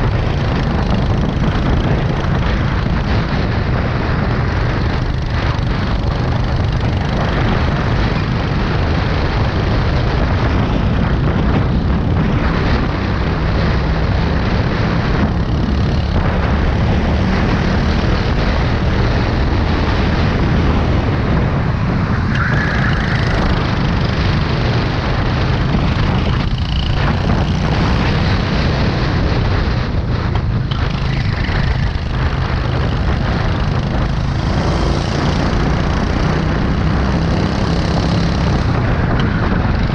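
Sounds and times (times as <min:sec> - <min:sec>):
go-kart engine droning: 0:00.0 - 0:39.9
rushing noise: 0:00.0 - 0:39.9.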